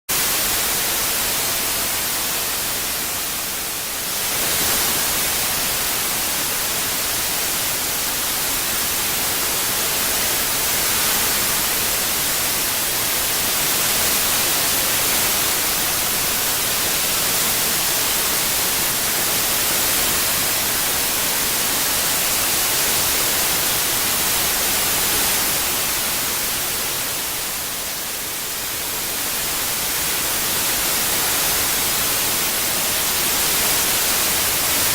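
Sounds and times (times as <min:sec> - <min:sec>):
white noise hiss: 0:00.1 - 0:34.9.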